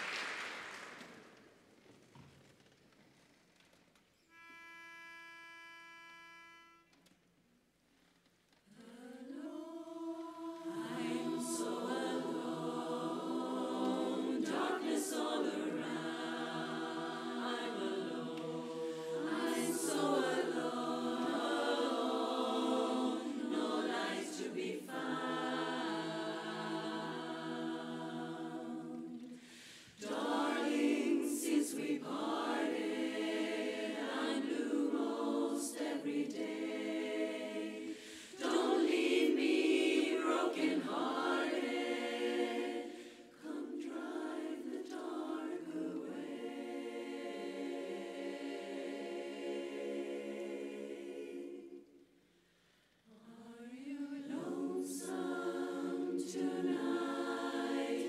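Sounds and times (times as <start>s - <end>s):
women's chorus singing a cappella: 8.7s - 52.4s, 53.0s - 58.0s.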